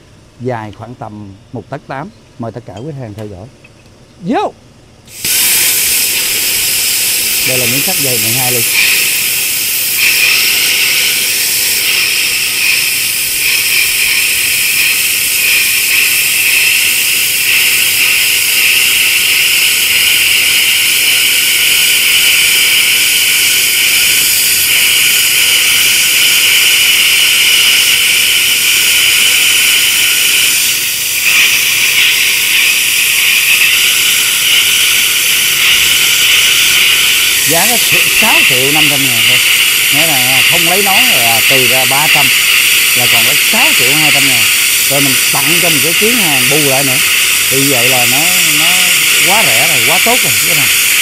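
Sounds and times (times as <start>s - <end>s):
plasma cutter hissing: 5.1s - 51.0s.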